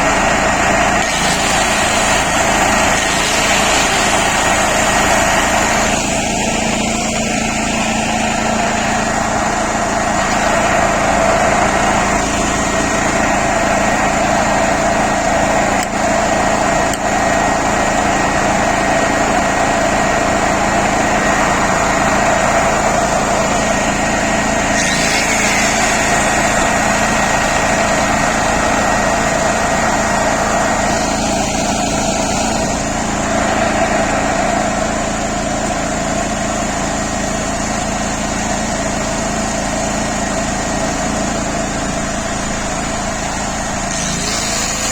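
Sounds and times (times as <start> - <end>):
angle grinder motor whine: 0.0 - 44.9
petrol generator running: 0.0 - 44.9.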